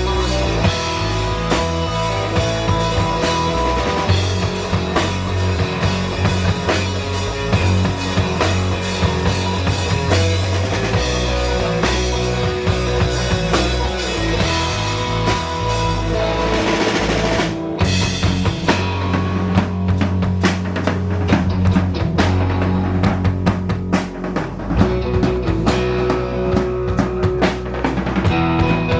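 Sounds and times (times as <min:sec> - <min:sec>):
busy drum kit: 0:00.0 - 0:28.9
live surf rock band: 0:00.0 - 0:28.9.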